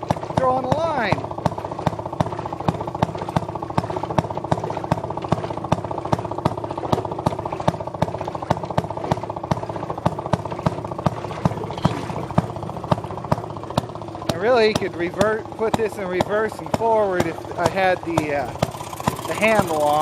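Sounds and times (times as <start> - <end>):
two-stroke engine chugging: 0.0 - 20.0.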